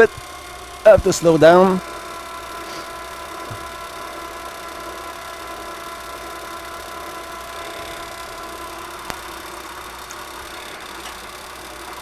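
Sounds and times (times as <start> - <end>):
milling machine running: 0.0 - 12.0.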